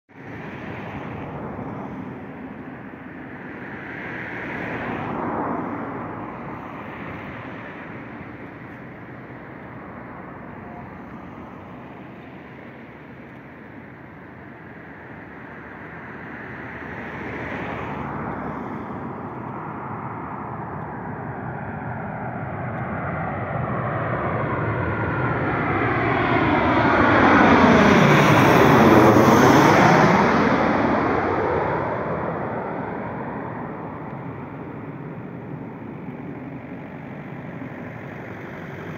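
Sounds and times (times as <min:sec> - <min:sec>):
distant jet engine rumble: 0:00.1 - 0:38.9.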